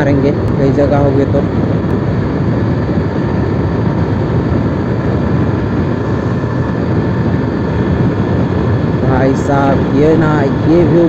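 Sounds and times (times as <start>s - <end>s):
road noise: 0.0s - 11.0s
wind rush: 0.0s - 11.0s.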